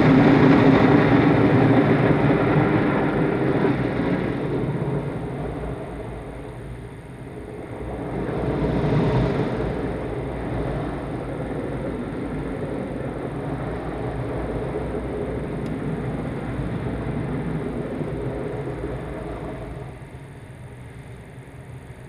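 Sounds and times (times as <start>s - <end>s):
car wash water and machinery: 0.0s - 22.0s.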